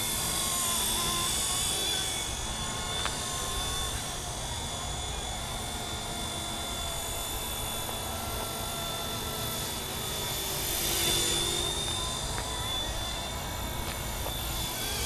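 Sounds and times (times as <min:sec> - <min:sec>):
helicopter high whine: 0:00.0 - 0:15.0
rushing rotor noise: 0:00.0 - 0:15.0.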